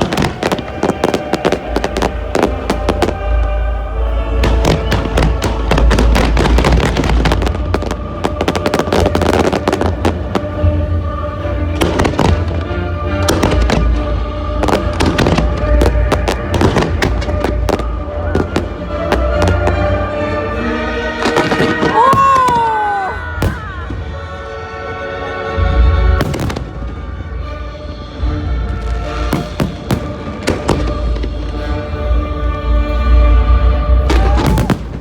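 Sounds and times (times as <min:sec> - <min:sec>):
fireworks bangs and crackles: 0:00.0 - 0:24.4, 0:25.6 - 0:35.0
music: 0:00.0 - 0:35.0.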